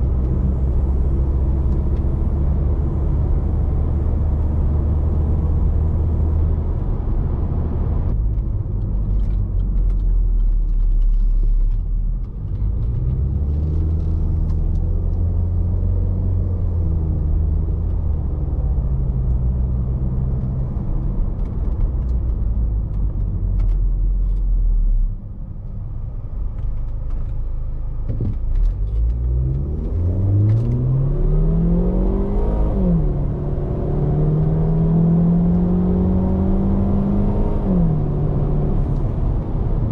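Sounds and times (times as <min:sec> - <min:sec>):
car engine accelerating: 0:00.0 - 0:24.4, 0:26.0 - 0:39.9
road rumble: 0:00.0 - 0:39.9.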